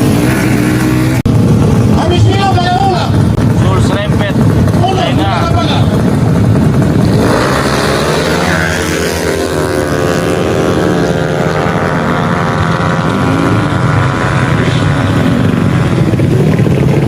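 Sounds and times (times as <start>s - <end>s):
scooter engine running loudly: 0.0s - 17.0s.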